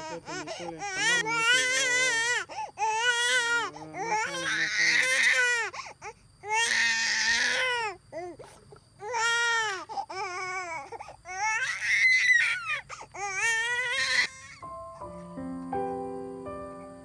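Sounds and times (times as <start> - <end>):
infant crying: 0.0 - 8.4, 9.0 - 14.7.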